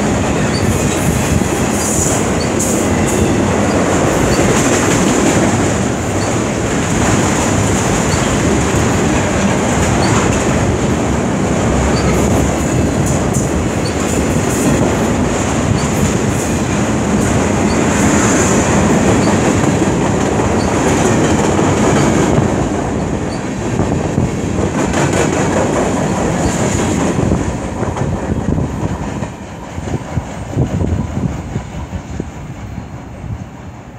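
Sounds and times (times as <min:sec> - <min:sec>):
clickety-clack over rail joints: 0:00.0 - 0:33.9
freight train wheels rumbling: 0:00.0 - 0:33.9.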